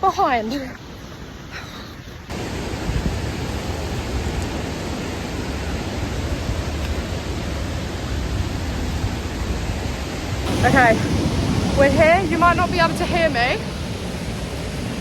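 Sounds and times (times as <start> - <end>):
large waterfall roaring: 2.3 - 15.0.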